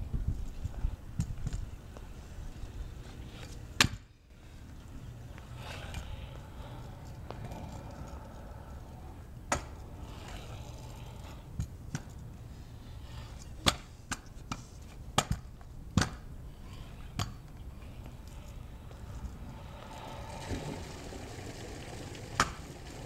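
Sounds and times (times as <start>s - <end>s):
kick scooter clacking on concrete: 0.4s - 12.2s, 13.1s - 23.0s.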